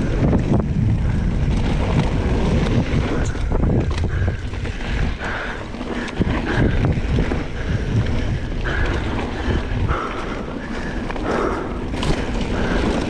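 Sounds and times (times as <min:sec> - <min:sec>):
bike tyre rumble: 0:00.0 - 0:13.0
wind buffeting microphone: 0:00.0 - 0:13.0.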